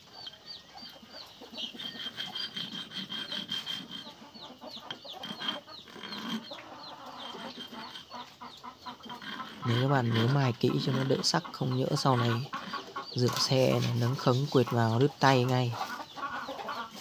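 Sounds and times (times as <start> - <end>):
chicks peeping: 0.0 - 17.0
metal mesh scraping on stone: 0.0 - 17.0.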